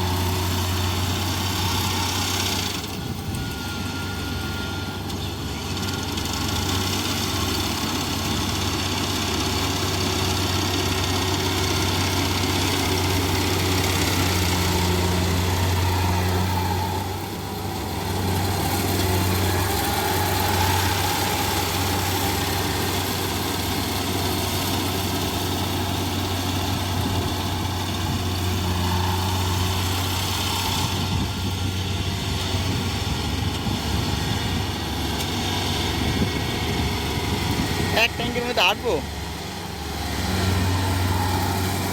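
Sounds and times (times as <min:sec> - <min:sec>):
combine harvester engine running: 0:00.0 - 0:41.9.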